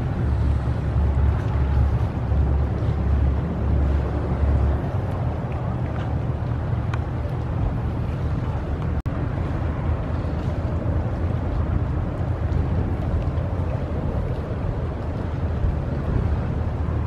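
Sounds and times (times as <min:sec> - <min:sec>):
outdoor harbour noise: 0:00.0 - 0:17.0
wind rumbling on microphone: 0:00.0 - 0:17.0.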